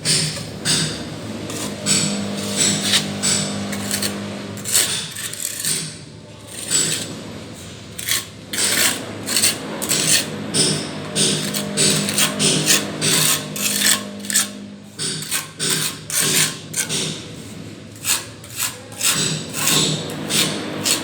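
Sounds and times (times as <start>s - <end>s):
trowel scraping a wall: 0.0s - 21.0s.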